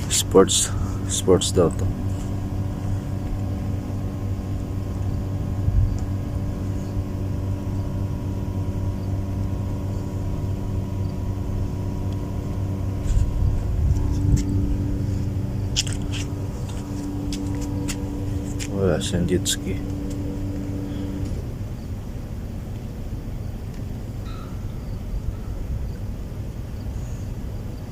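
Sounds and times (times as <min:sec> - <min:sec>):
machine hum: 0:00.0 - 0:27.9.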